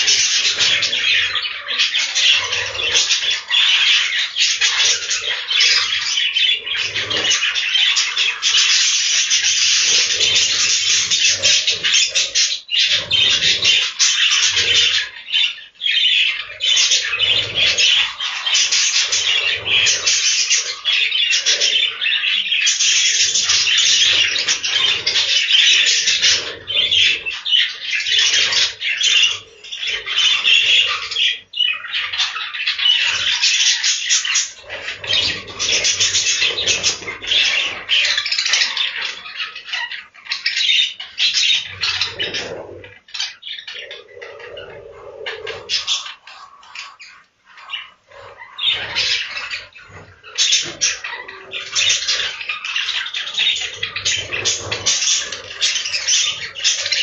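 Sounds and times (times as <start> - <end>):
budgerigars chattering and squawking: 0.0 - 57.0.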